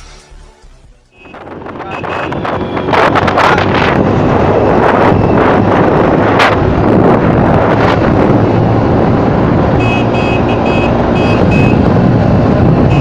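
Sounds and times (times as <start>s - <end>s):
wind rush on microphone: 1.2s - 13.0s.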